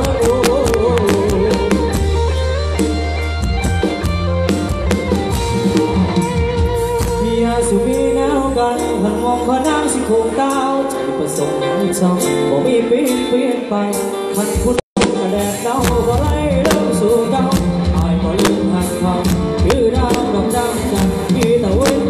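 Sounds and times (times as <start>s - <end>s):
heavy bass: 0.0s - 11.4s, 14.6s - 22.0s
drum kit: 0.0s - 22.0s
melodic lead line: 0.0s - 22.0s.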